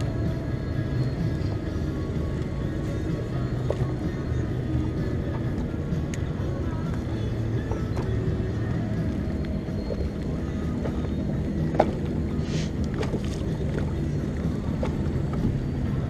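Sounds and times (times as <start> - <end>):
lake water lapping: 0.0 - 16.0.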